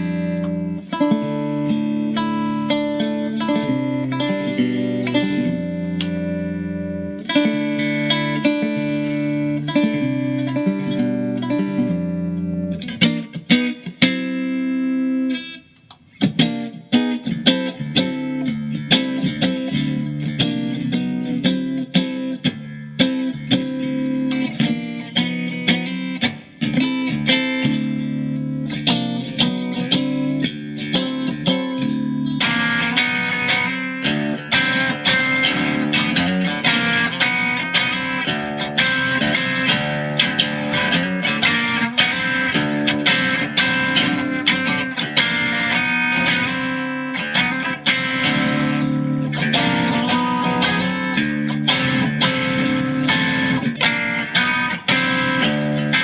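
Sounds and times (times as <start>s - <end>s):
electric guitar notes and chords: 0.0s - 56.0s.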